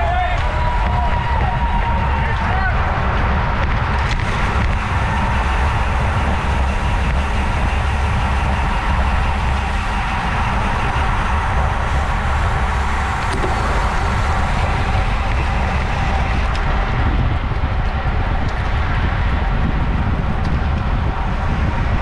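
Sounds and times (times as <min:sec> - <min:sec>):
tyre and road noise: 0:00.0 - 0:22.0
wind buffeting microphone: 0:00.0 - 0:22.0.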